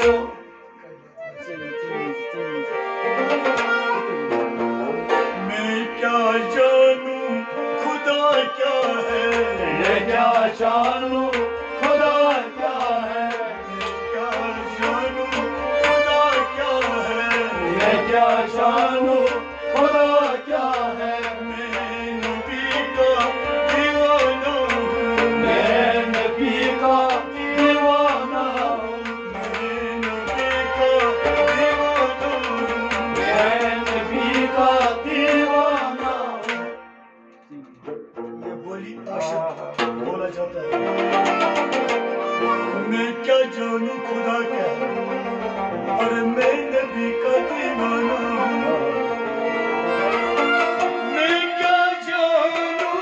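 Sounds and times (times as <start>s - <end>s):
men singing: 0.0s - 0.4s, 5.1s - 36.8s, 42.6s - 53.0s
harmonium held notes: 0.0s - 37.4s, 40.6s - 53.0s
bowed sarangi: 0.0s - 53.0s.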